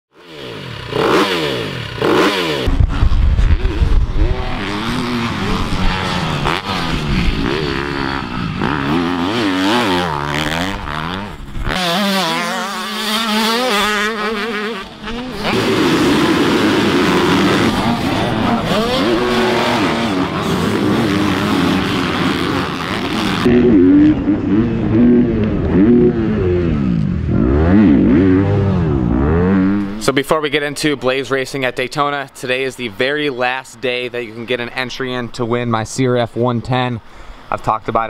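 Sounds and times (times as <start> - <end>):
dirt bike engines revving: 0.2 - 38.0.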